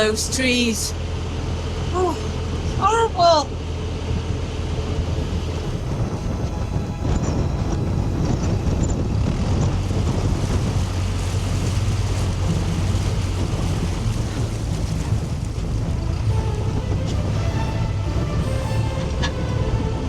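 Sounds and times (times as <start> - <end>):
diesel engine humming: 0.0 - 20.0
wind noise on microphone: 1.2 - 20.0.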